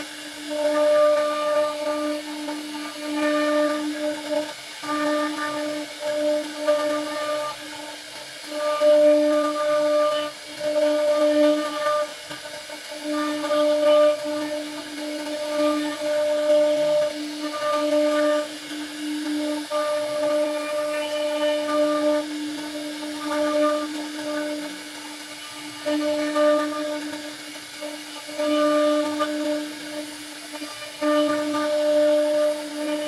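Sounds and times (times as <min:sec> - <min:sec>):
router spindle carving wood: 0:00.0 - 0:33.0.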